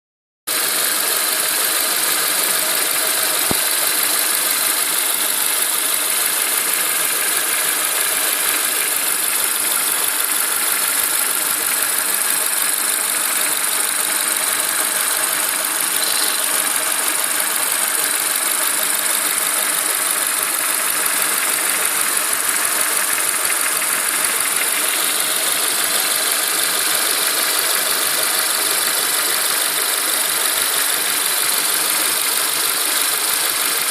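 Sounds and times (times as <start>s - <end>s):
faint engine knocking: 0.5s - 33.9s
petrol engine running: 0.6s - 33.8s.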